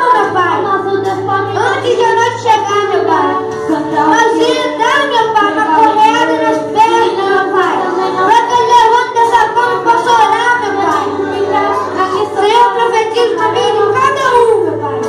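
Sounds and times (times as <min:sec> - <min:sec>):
boy and girl singing: 0:00.0 - 0:15.0
musical accompaniment: 0:00.0 - 0:15.0.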